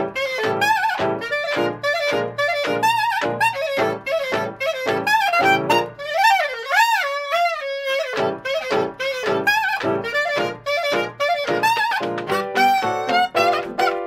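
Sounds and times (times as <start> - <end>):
clarinet with sliding notes: 0.0 - 14.0
hot jazz band playing blues: 0.0 - 14.0.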